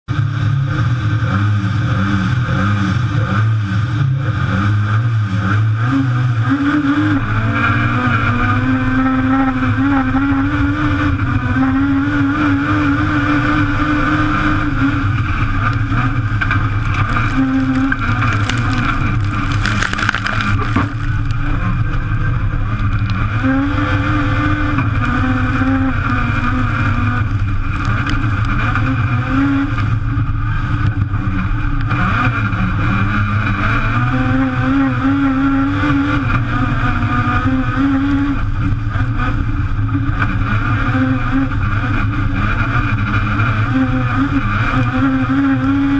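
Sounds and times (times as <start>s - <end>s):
race engine revving: 0.1s - 45.9s.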